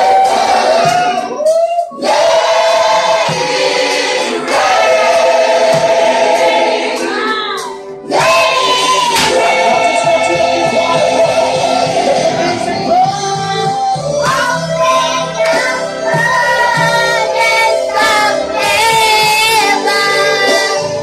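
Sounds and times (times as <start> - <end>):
choir singing: 0.0 - 21.0
musical accompaniment: 0.0 - 21.0.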